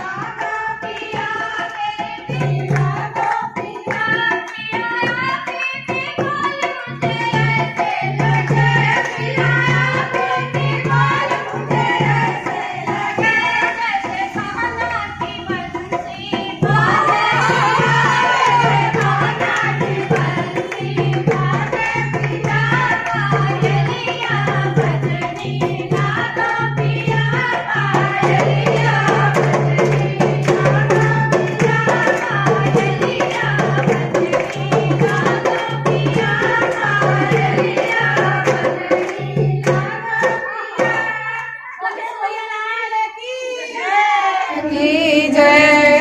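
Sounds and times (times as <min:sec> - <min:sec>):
drum beat: 0:00.0 - 0:41.3
women singing folk song: 0:00.0 - 0:46.0.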